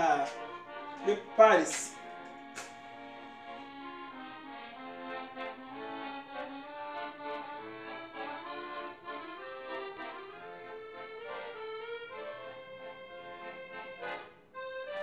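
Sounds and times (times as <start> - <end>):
accordion melody: 0.0 - 15.0.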